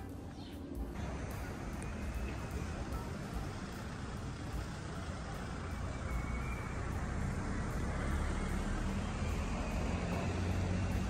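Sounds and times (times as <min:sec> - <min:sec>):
street ambience low rumble: 0:00.0 - 0:11.0.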